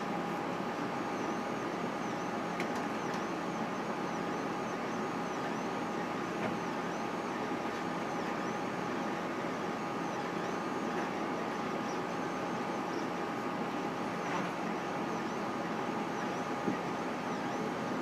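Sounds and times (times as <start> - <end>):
three-d printer stepper motors whining: 0.0 - 18.0.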